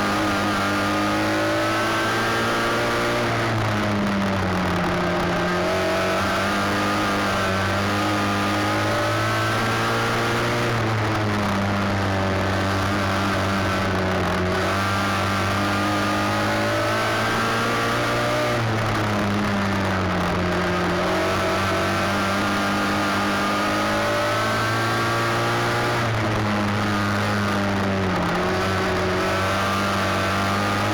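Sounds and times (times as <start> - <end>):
race car engine running hard: 0.0 - 30.9.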